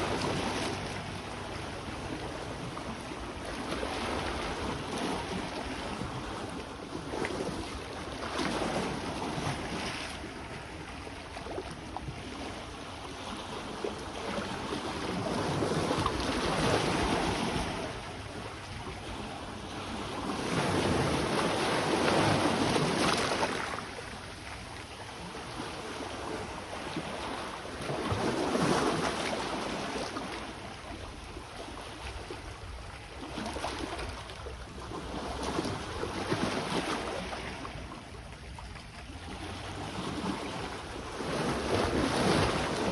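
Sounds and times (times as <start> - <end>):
sea waves breaking on shore: 0.0 - 42.9.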